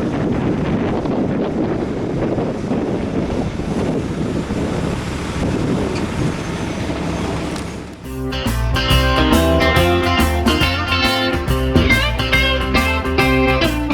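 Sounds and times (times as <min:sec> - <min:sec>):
freight train cars rolling past: 0:00.0 - 0:13.9
wind buffeting microphone: 0:00.0 - 0:13.9.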